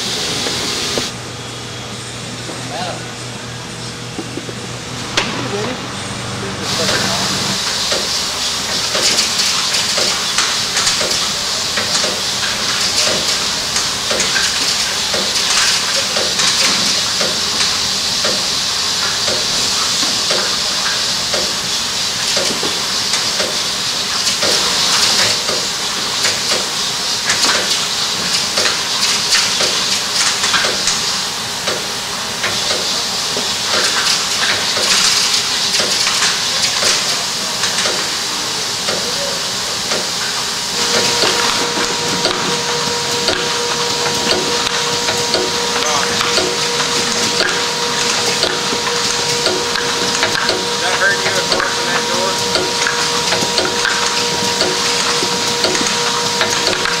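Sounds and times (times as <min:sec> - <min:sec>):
machine hissing: 0:00.0 - 0:01.2, 0:05.1 - 0:57.0
machine clacks: 0:06.7 - 0:38.2, 0:39.9 - 0:57.0.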